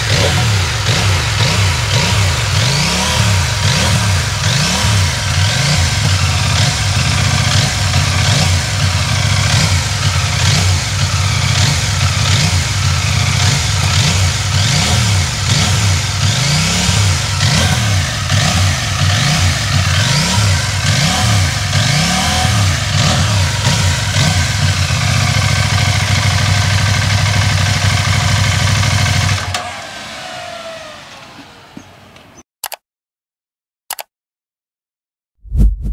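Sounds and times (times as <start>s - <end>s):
motorcycle engine idling: 0.0s - 29.4s
motorcycle engine revving: 0.0s - 31.1s.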